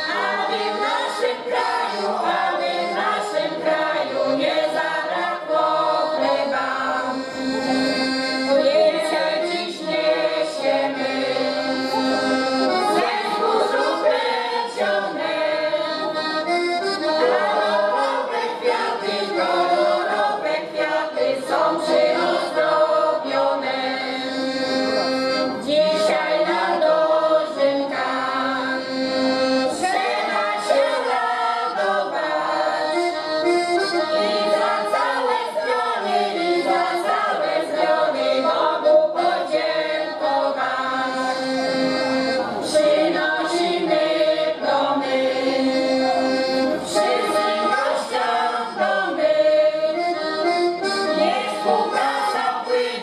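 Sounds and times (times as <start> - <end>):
accordion: 0.0 - 53.0
women's choir singing: 0.0 - 53.0.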